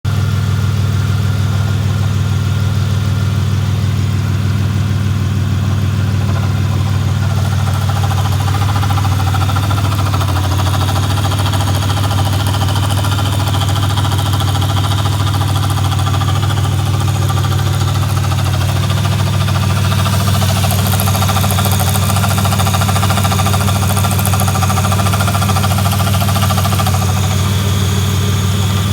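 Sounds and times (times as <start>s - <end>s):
car engine idling: 0.0s - 28.9s
unidentified engine noise: 0.1s - 28.9s.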